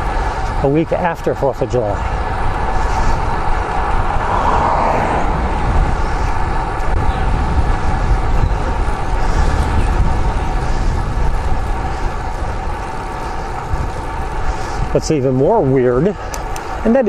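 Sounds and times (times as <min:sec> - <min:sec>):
bike tyres rolling: 0:00.0 - 0:17.0
wind buffeting microphone: 0:01.6 - 0:16.8.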